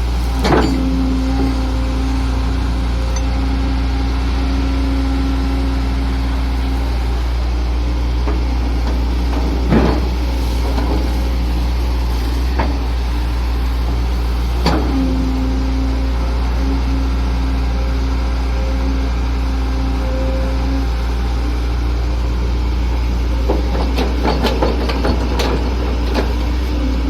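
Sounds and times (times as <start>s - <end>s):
diesel engine droning: 0.0s - 27.0s
steady whine: 0.0s - 27.0s.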